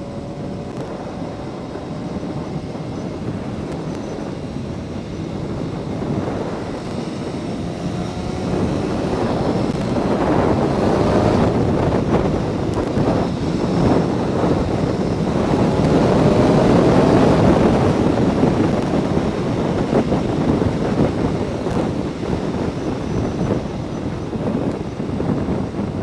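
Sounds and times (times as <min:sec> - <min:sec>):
motorcycle engine: 0:00.0 - 0:26.0
wind rush on microphone: 0:00.0 - 0:26.0.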